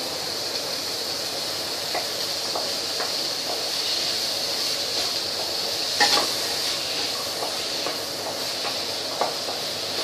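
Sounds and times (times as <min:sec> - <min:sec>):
chickpeas sizzling in oil: 0:00.0 - 0:10.0.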